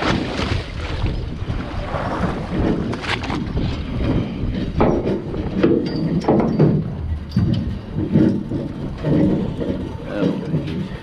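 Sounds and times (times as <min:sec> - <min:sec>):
boat noise: 0:00.0 - 0:11.0
wind: 0:00.0 - 0:11.0
knocks and rustles of fish handling: 0:02.2 - 0:11.0.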